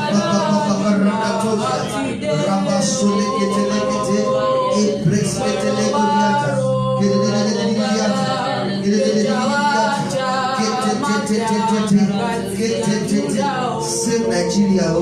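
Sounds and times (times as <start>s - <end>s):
held low chord: 0.0s - 15.0s
voices singing: 0.0s - 15.0s.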